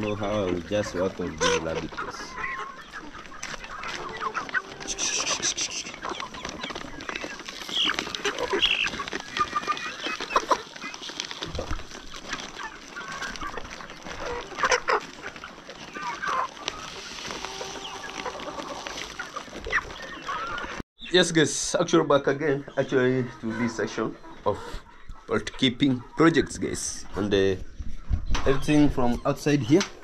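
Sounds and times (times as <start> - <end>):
hens clucking: 0.0 - 30.0.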